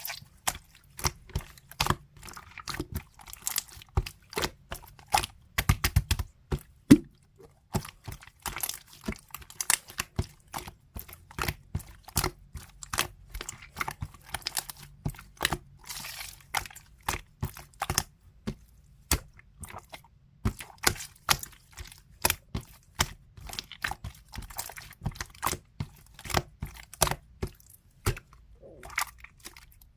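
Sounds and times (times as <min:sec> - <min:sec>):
slime squishing with clicks and pops: 0:00.0 - 0:29.9.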